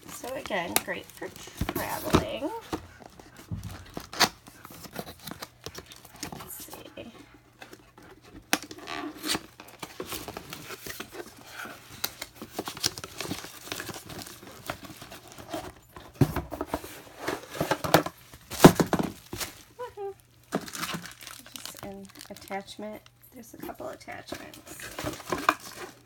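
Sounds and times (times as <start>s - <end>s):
packaging rustling and crinkling: 0.0s - 26.0s.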